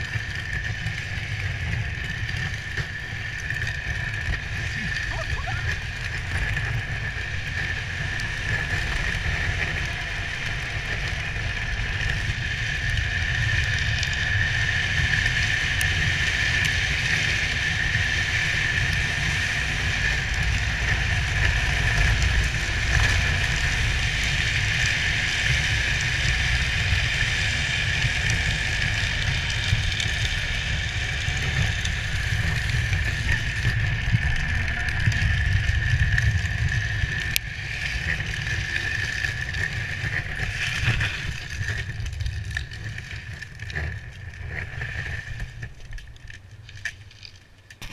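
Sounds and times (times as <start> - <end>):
wheels hissing on asphalt: 0.0 - 47.9.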